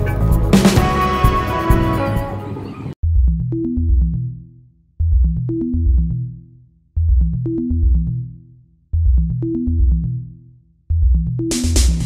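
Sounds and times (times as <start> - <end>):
electronic music with bass and drum-machine beat: 0.0 - 2.3, 3.0 - 12.0.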